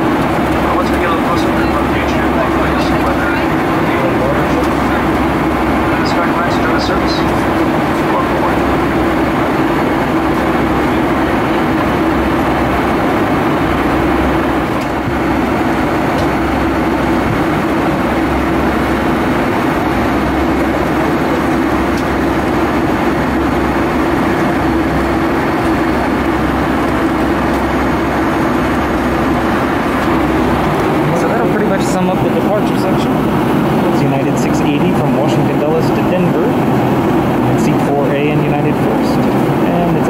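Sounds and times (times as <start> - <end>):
airplane cabin airflow and engines: 0.0 - 40.0
low hum: 0.0 - 40.0.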